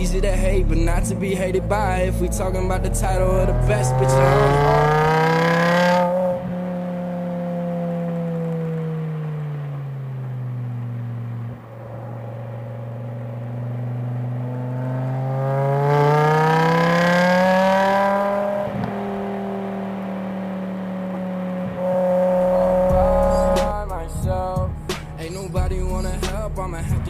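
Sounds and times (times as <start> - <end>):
car engine exhaust accelerating: 0.0 - 27.0.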